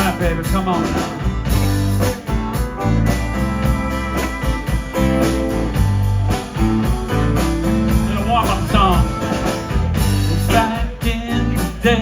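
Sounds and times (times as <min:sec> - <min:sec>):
bass: 0:00.0 - 0:12.0
guitar: 0:00.0 - 0:12.0
organ chords: 0:00.0 - 0:12.0
steady drum beat: 0:00.0 - 0:12.0.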